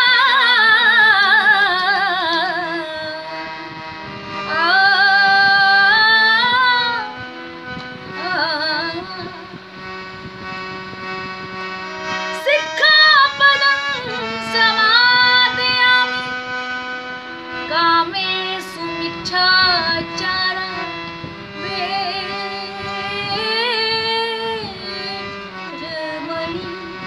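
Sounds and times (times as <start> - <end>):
woman singing devotional song: 0.0 - 3.7, 4.4 - 10.2, 12.1 - 27.0
steady musical accompaniment: 0.0 - 27.0.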